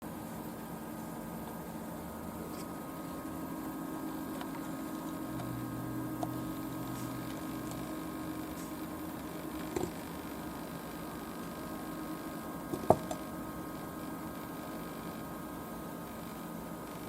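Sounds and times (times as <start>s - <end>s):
refrigerator humming: 0.0s - 17.0s.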